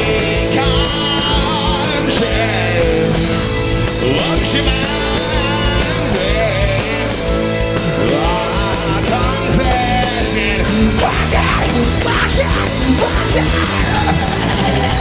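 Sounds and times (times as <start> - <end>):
rock band playing: 0.0 - 15.0
wavering lead vocal: 0.0 - 15.0.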